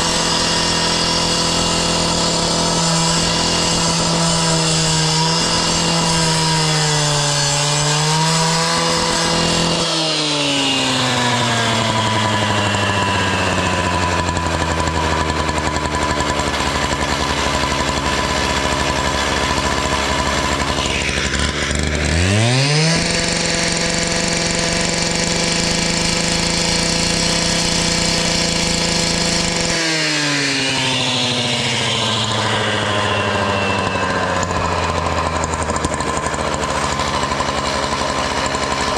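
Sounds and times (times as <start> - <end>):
disc cutter engine revving and idling: 0.0 - 38.9.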